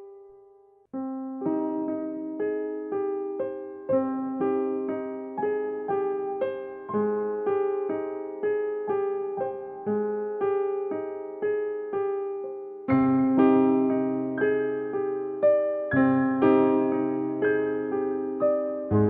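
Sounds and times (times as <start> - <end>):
soft piano repeated notes: 0.0 - 19.0.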